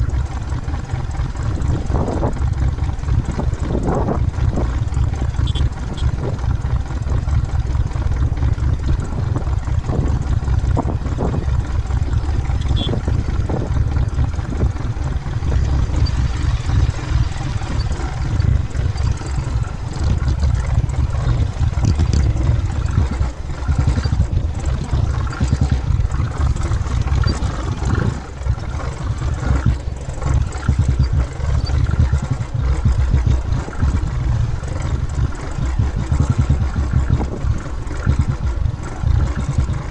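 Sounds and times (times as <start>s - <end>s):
motorcycle engine at low revs: 0.0s - 39.9s
wind rumble on microphone: 0.0s - 39.9s.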